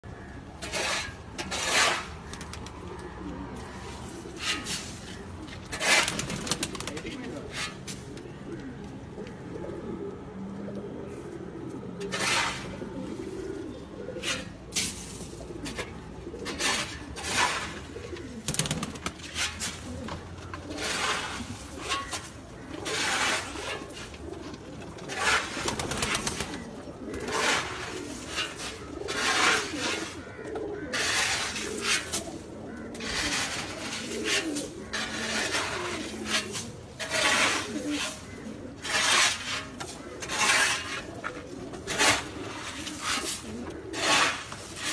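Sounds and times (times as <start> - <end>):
pigeons cooing: 0.1 - 44.9.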